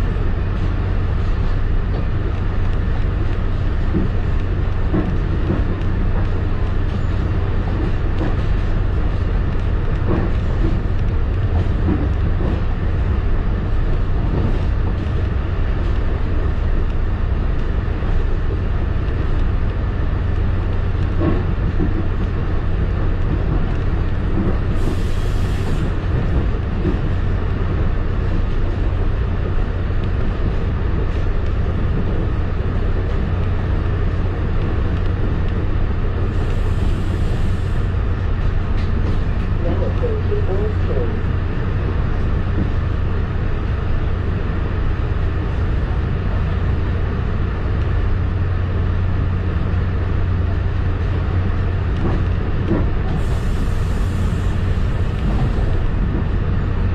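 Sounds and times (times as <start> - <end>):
wheels rumbling on rail: 0.0 - 56.9.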